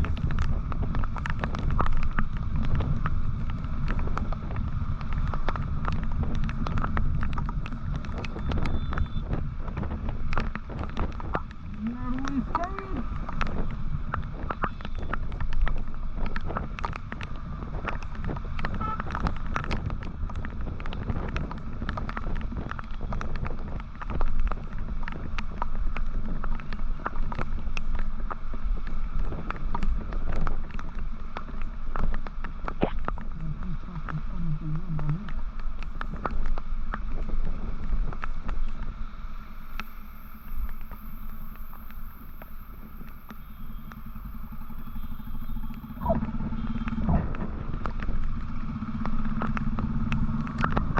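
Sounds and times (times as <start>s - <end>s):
crackles and pops: 0.0s - 50.9s
motorcycle engine and road rumble: 0.0s - 50.9s
wind buffeting microphone: 0.0s - 50.9s.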